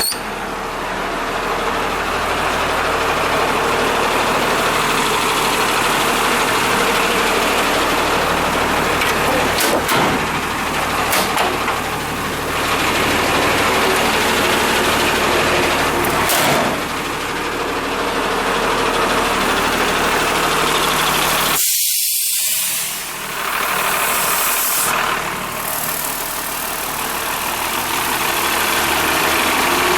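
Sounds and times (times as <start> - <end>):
diesel engine idling: 0.0 - 21.6, 22.2 - 29.9.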